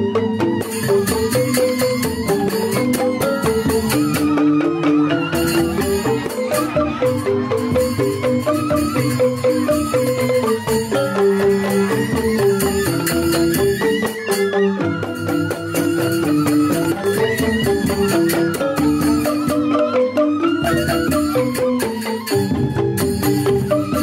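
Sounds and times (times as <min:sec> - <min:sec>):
bamboo flute melody: 0:00.0 - 0:24.0
bamboo xylophones playing: 0:00.0 - 0:24.0.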